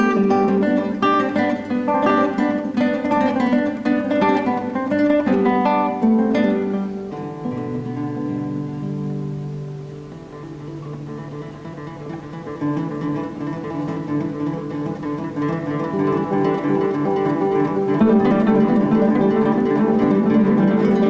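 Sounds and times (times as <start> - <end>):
classical guitars playing: 0.0 - 21.0.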